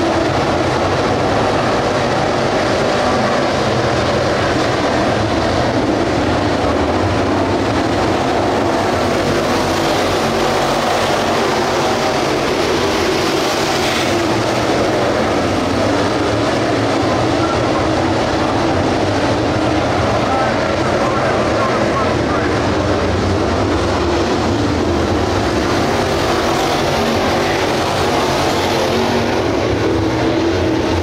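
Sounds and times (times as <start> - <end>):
race cars engine roar: 0.0 - 31.0.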